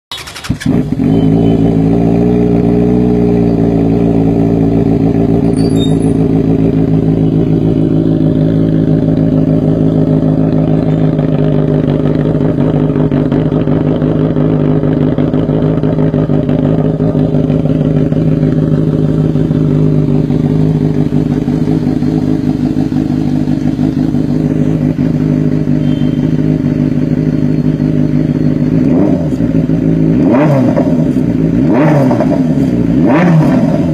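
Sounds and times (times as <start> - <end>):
motorcycle engine idling: 0.1 - 33.2
engine revving: 0.1 - 33.9.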